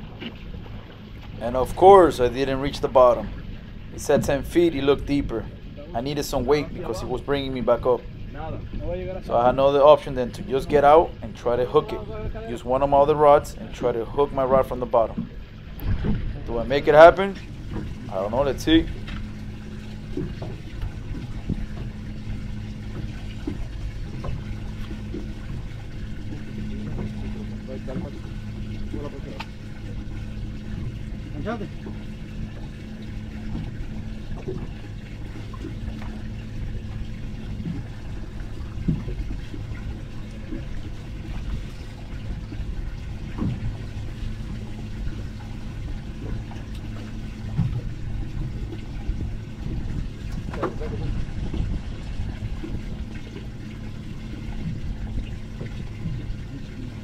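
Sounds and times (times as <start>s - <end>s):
small water splashes: 0.0s - 57.0s
steady low hum: 0.0s - 57.0s
water sloshing and trickling: 0.0s - 57.0s.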